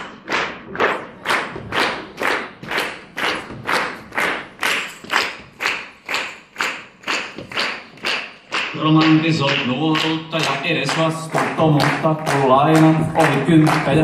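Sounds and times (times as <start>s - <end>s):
hands clapping in unison: 0.0s - 14.0s.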